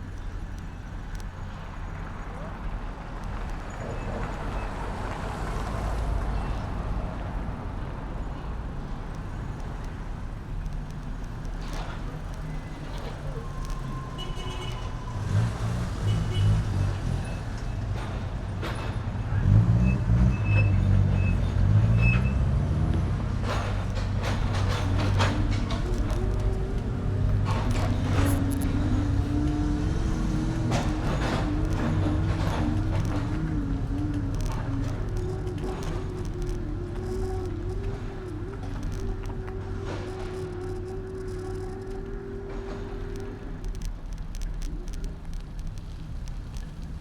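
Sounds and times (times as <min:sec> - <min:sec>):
low vehicle rumble: 0:00.0 - 0:47.0
street traffic noise: 0:00.0 - 0:47.0.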